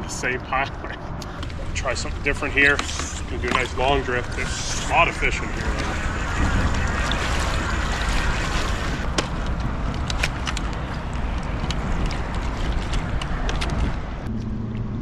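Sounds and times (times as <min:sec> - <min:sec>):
low steady hum: 0:00.0 - 0:15.0
wind buffeting microphone: 0:01.1 - 0:14.3
water lapping against kayak hull: 0:01.2 - 0:14.3.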